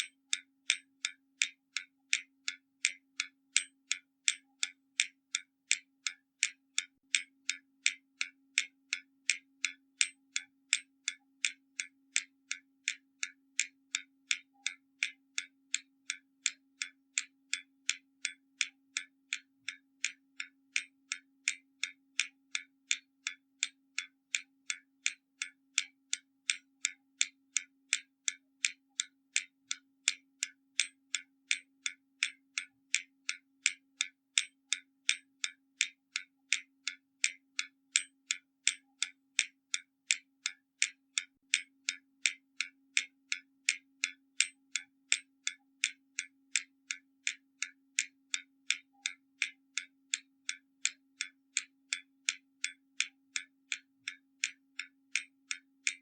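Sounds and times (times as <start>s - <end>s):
mechanical clock ticking: 0.0s - 56.0s.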